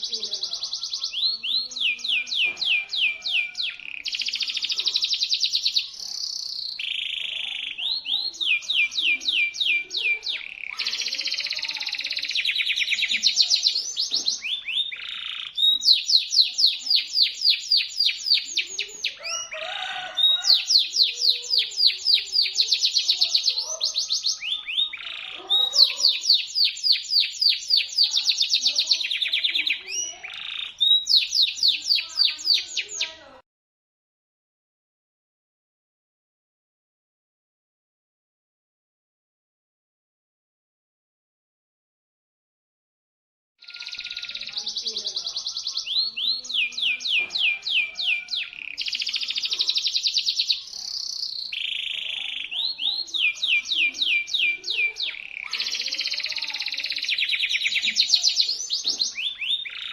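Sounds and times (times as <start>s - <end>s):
canary singing trills: 0.0s - 33.4s, 43.6s - 59.9s.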